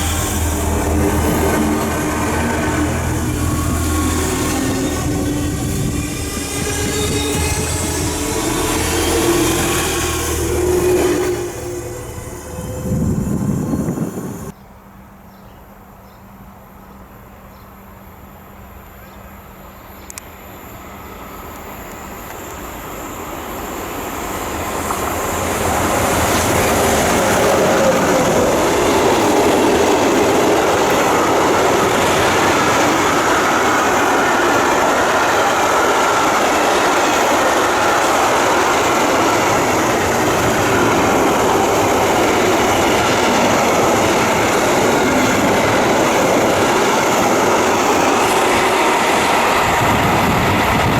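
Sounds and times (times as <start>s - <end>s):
train wheels rushing on rails: 0.0s - 14.6s, 19.7s - 50.9s.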